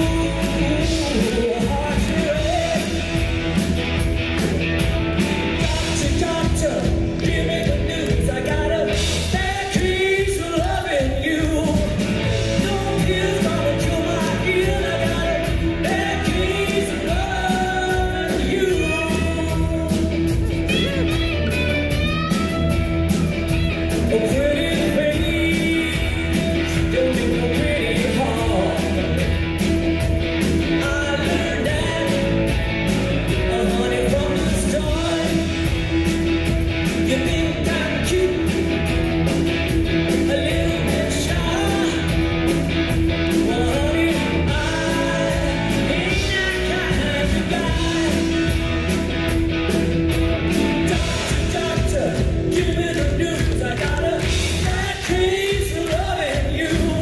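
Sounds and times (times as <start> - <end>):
bass guitar: 0.0 - 57.0
drum kit beat: 0.0 - 57.0
electric guitars: 0.0 - 57.0.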